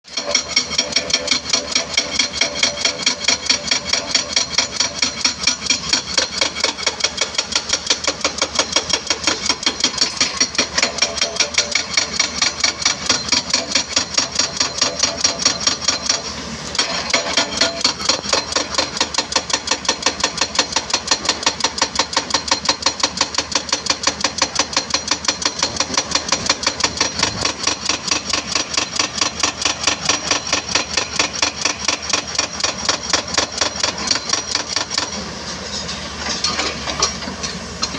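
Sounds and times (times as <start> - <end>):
hydraulic breaker hammering: 0.1 - 37.9.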